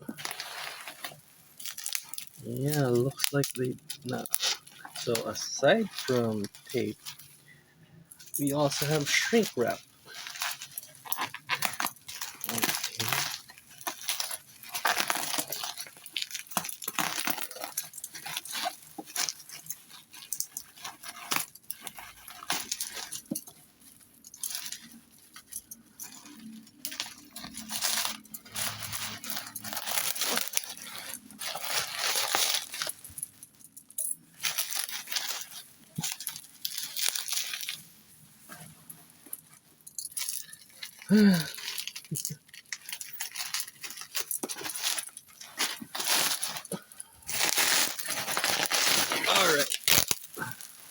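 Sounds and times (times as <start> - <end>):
plastic packaging rustling: 0.0 - 50.9.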